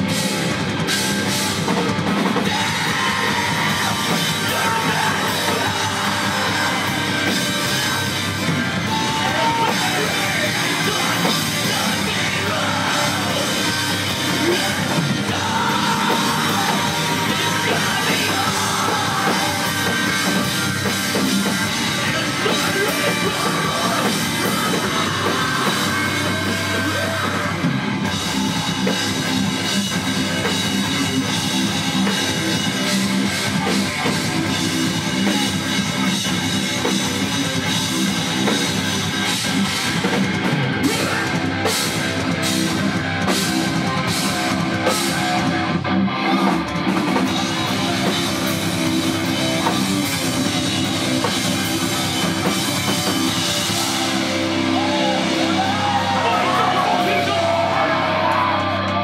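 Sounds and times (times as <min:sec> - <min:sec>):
distorted electric guitar: 0:00.0 - 0:59.0
drum kit with cymbals: 0:00.0 - 0:59.0.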